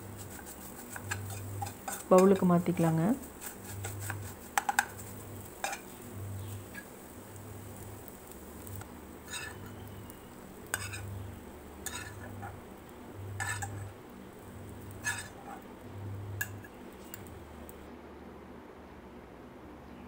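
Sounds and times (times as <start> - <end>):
spatula scraping a frying pan: 0.0 - 17.8.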